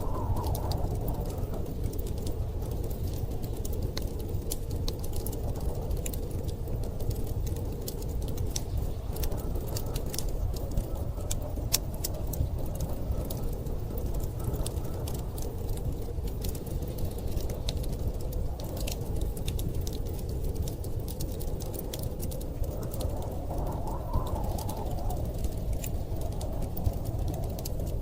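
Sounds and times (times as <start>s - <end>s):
blizzard wind rumbling: 0.0s - 28.0s
wood fire crackling and snapping: 0.0s - 28.0s.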